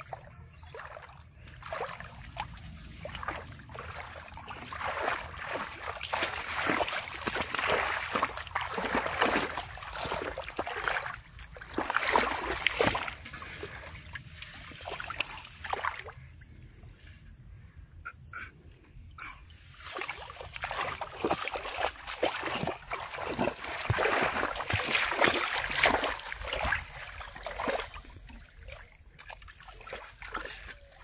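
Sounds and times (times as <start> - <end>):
splashing in shallow water: 0.0 - 17.1, 19.6 - 31.0.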